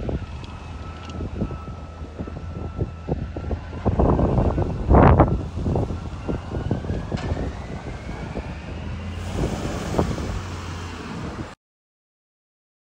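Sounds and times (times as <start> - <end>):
truck engine rumbling: 0.0 - 11.6.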